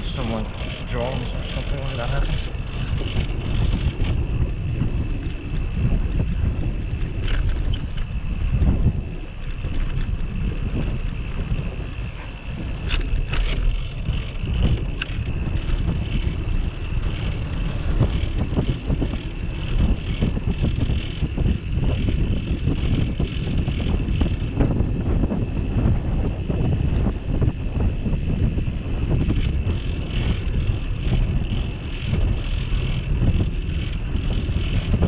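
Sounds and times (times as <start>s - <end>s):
low rumble of bicycle ride: 0.0s - 35.0s
wind buffeting microphone: 0.0s - 35.0s.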